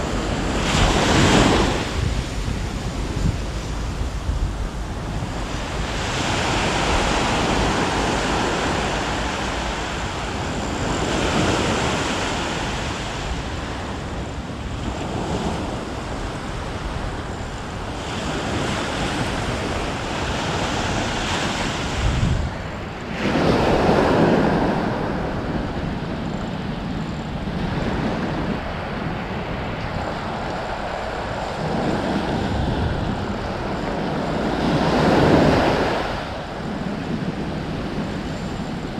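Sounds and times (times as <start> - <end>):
surf on a rocky shore: 0.0 - 38.9
wind on microphone: 0.0 - 38.9.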